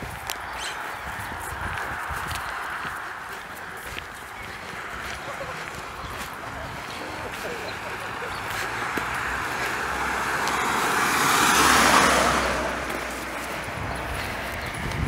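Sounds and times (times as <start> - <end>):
car passing by: 0.0 - 15.0.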